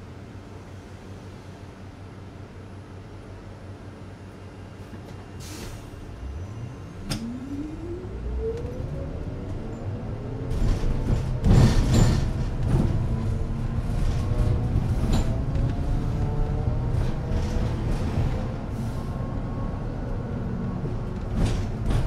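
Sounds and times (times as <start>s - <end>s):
bus machinery whine: 0.0s - 22.0s.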